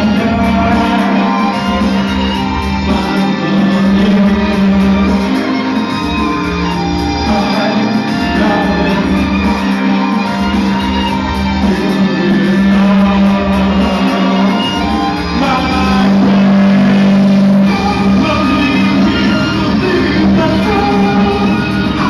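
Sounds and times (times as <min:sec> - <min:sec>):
backing music with low beat: 0:00.0 - 0:22.0
singer: 0:00.0 - 0:22.0
violin: 0:00.0 - 0:22.0.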